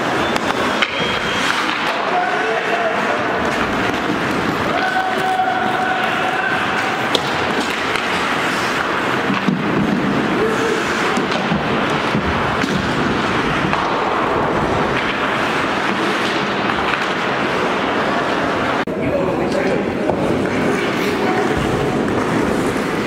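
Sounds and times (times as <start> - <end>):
hockey sticks clacking: 0.0 - 23.0
skates scraping ice: 0.0 - 23.0.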